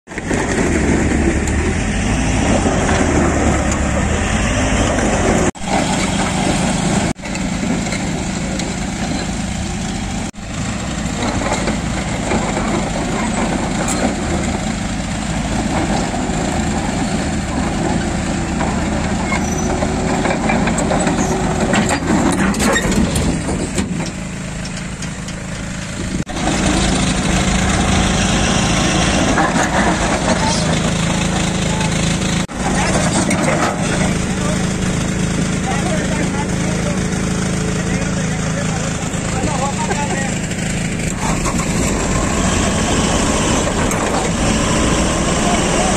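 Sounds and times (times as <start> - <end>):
diesel engine droning: 0.1 - 45.9.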